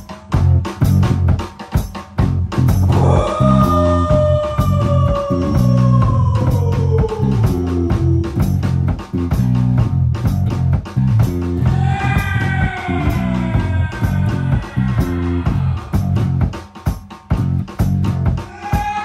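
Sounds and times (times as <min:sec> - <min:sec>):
bass guitar and drums: 0:00.0 - 0:19.0.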